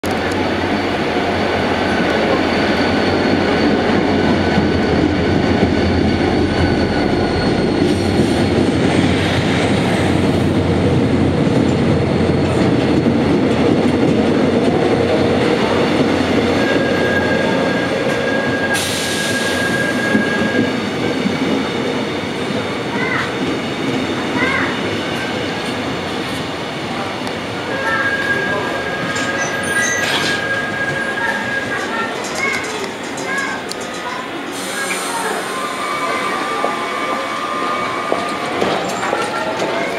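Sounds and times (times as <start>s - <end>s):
diesel locomotive passing: 0.0s - 39.9s
train wheels rushing on rails: 0.0s - 39.9s.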